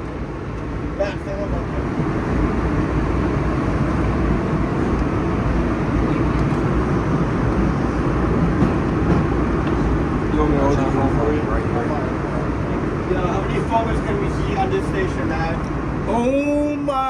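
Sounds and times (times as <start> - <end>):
train wheels on rails: 0.1 - 16.6.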